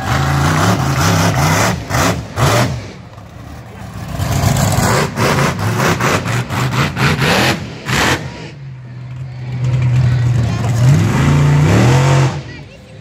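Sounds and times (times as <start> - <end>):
monster truck engine revving: 0.0 - 12.9.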